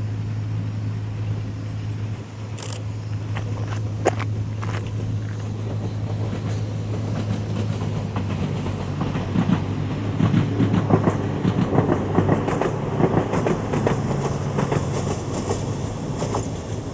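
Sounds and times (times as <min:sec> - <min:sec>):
steady low hum: 0:00.0 - 0:16.9
train wheels clattering over joints: 0:02.7 - 0:16.9.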